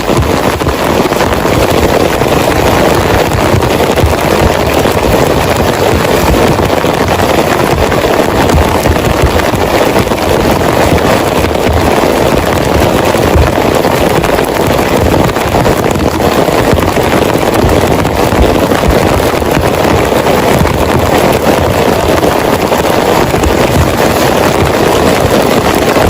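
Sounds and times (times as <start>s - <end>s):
heavy rain downpour: 0.0s - 26.0s.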